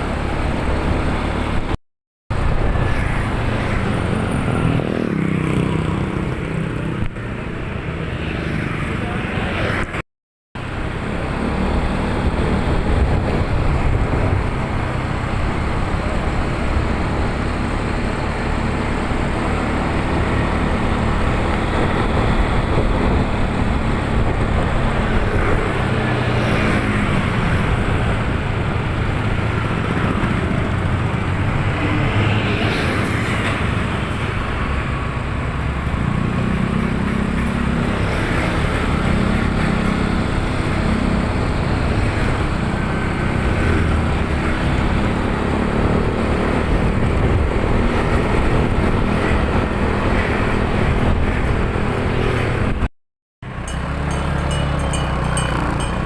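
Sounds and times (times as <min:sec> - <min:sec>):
vehicle engine and road noise: 0:00.0 - 0:10.0, 0:10.6 - 0:56.0.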